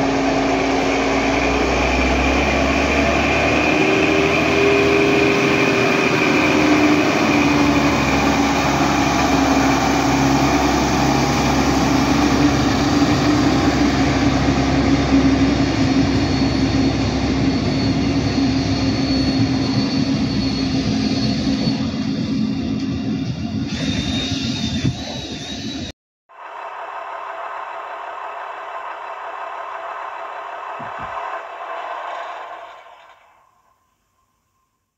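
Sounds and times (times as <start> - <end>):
diesel engine droning: 0.0 - 24.4, 25.1 - 34.7
train wheels rumbling: 0.0 - 34.7.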